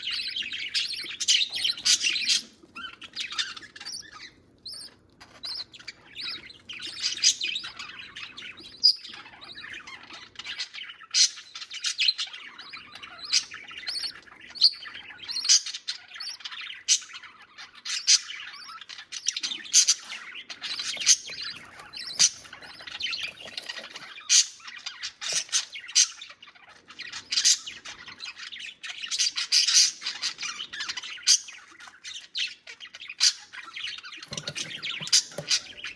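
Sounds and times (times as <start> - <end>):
budgies chirping and squawking: 0.0 - 35.9.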